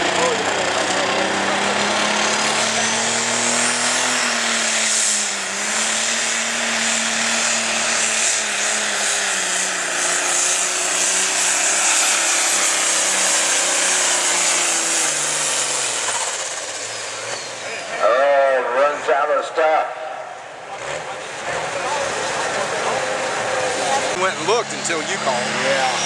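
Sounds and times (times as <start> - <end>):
diesel engine at full power: 0.0 - 26.0.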